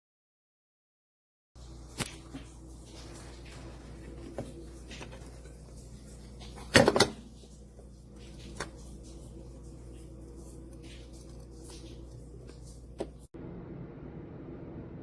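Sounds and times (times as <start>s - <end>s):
steady low hum: 1.6s - 15.0s.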